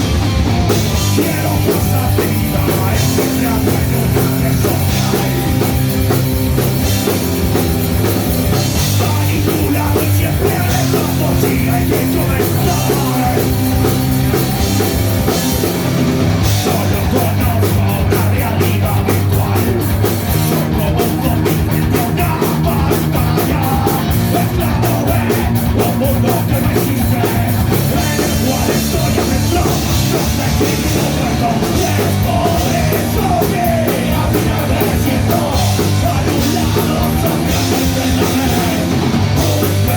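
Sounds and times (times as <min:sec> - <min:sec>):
fast driving drum beat: 0:00.0 - 0:39.9
punk rock band playing: 0:00.0 - 0:39.9.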